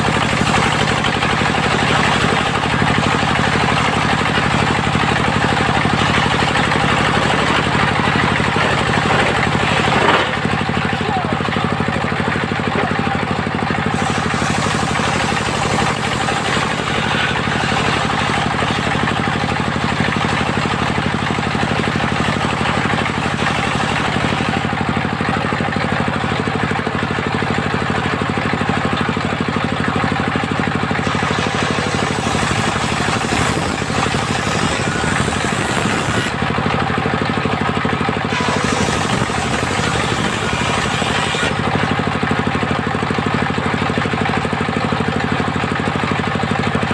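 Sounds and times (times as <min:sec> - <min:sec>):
sawmill engine running: 0:00.0 - 0:46.9.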